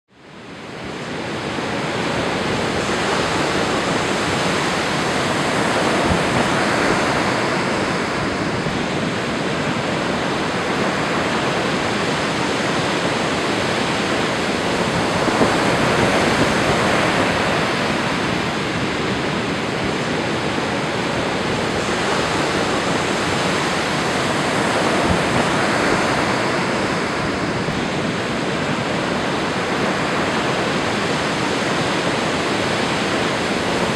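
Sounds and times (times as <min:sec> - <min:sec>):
waves breaking on shore: 0:00.2 - 0:33.9.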